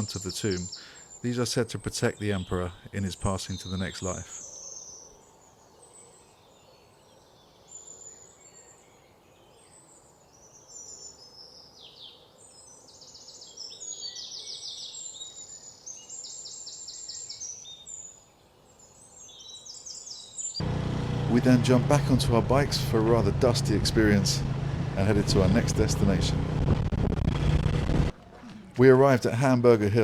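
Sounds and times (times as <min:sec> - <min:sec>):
birds chirping and trilling: 0:00.0 - 0:26.4.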